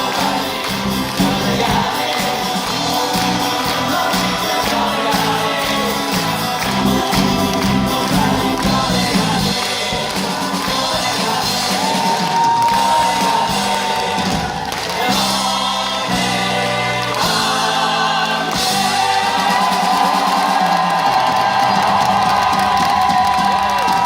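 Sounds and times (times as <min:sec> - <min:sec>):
singers with a band: 0:00.0 - 0:24.0.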